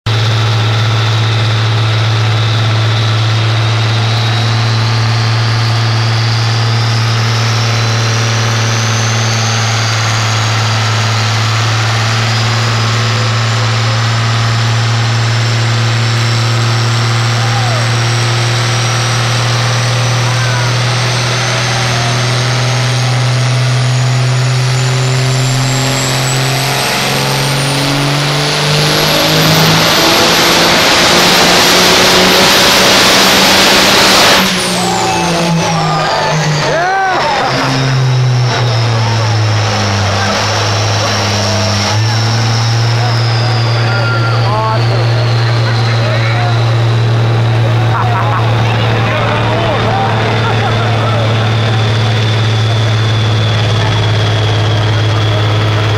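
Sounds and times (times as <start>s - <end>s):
diesel engine droning: 0.0s - 55.9s
turbo whistle: 0.2s - 55.9s.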